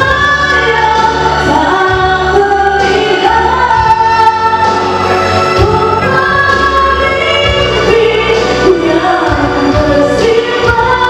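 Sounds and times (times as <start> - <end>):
instrumental backing music: 0.0 - 11.0
woman singing into microphone: 0.0 - 11.0.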